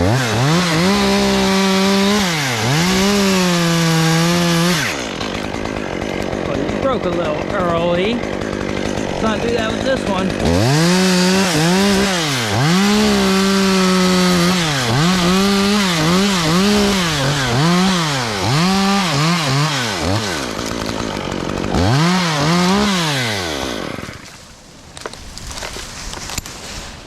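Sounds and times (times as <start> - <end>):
chainsaw cutting a tree limb: 0.0 - 26.7.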